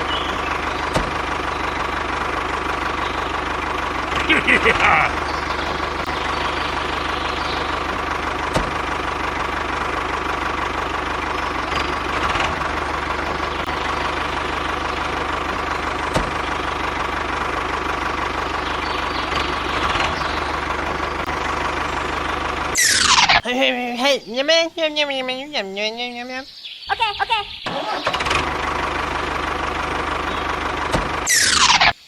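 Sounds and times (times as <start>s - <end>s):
engine running: 0.0s - 24.0s, 27.1s - 32.0s.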